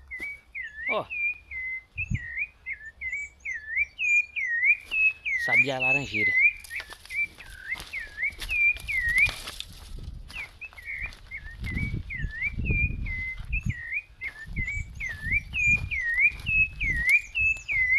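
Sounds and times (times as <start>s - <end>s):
thrush singing whistled notes: 0.0s - 9.6s, 10.3s - 17.9s.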